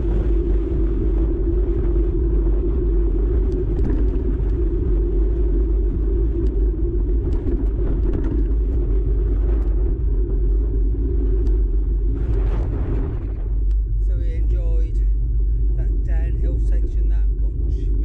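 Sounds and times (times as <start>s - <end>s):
bike tyres rumbling on gravel: 0.0s - 18.0s.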